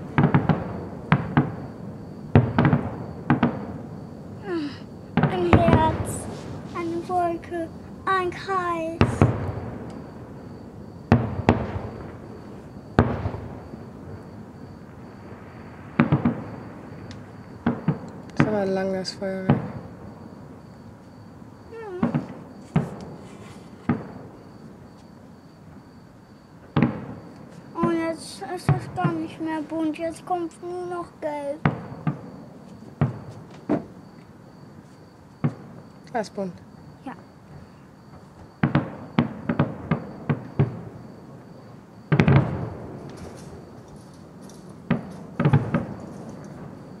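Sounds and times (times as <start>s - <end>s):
fireworks bangs: 0.0s - 36.5s, 38.0s - 47.0s.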